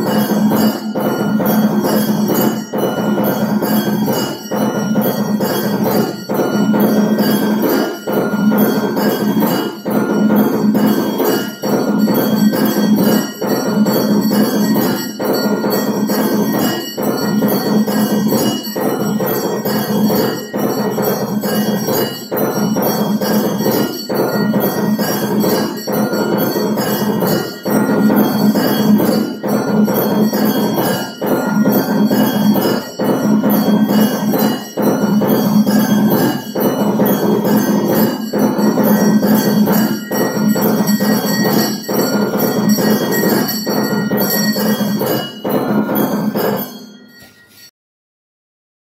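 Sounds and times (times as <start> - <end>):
drumming: 0.0 - 47.2
metal bells ringing: 0.0 - 47.7.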